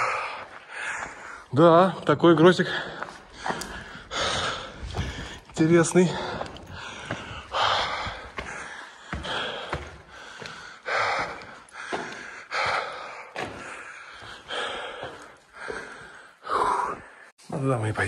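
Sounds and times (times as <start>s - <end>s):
man breathing hard: 0.0s - 1.5s, 2.6s - 17.3s.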